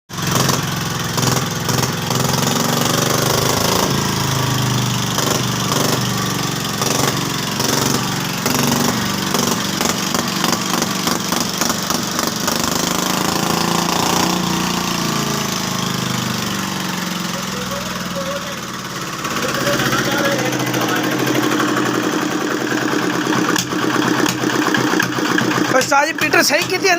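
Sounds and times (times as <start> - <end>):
diesel engine running: 0.1 - 26.9.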